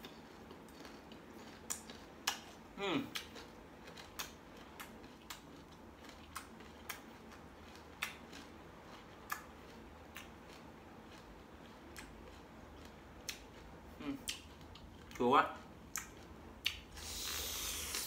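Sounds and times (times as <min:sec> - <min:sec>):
person chewing crunchy fruit: 0:00.0 - 0:18.0.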